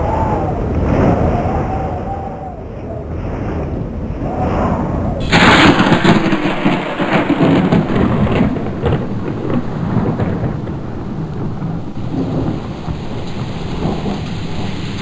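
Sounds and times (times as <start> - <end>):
thunder crack and rumble: 0.0 - 15.0.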